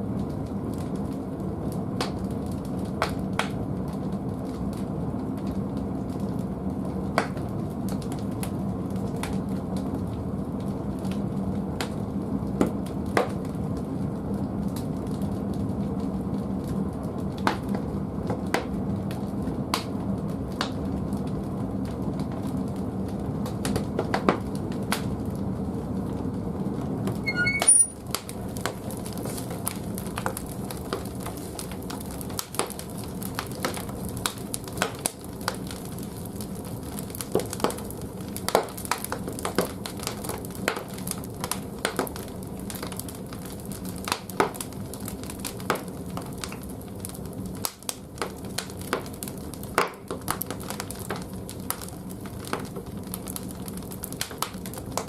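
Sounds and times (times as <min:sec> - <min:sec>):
firewood crackling and popping: 0:00.0 - 0:27.0, 0:28.1 - 0:55.0
low rumble of fire: 0:00.0 - 0:27.3, 0:28.0 - 0:55.0.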